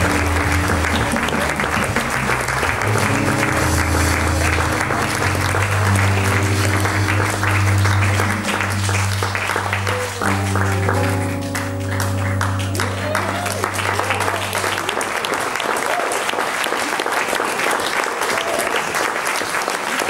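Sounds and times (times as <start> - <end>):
live music low chords: 0.0 - 16.1
audience applauding: 0.0 - 20.0.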